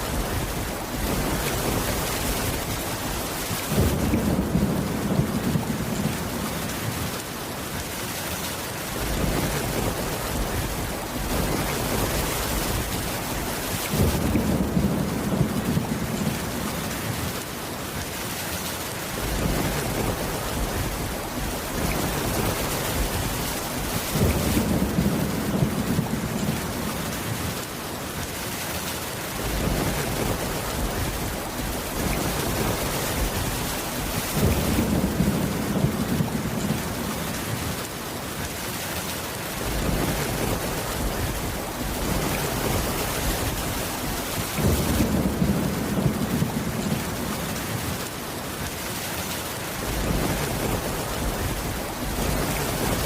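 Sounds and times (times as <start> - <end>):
thunder rumbling: 0.0 - 7.3, 8.9 - 17.5, 19.1 - 27.7, 29.3 - 37.9, 39.5 - 48.4, 49.7 - 53.0
rain on a wooden roof: 0.0 - 53.0.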